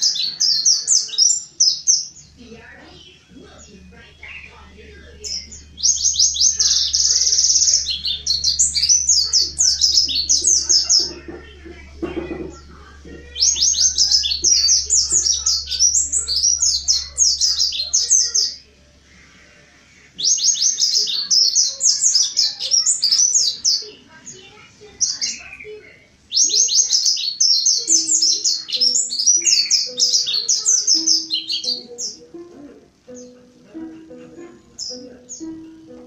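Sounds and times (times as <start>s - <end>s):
bird twittering song: 0.0s - 18.7s, 20.1s - 32.4s, 33.1s - 36.0s.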